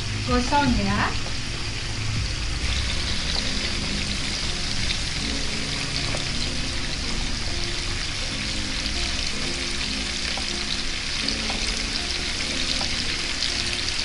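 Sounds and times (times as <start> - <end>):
food sizzling in frying pan: 0.0 - 14.0.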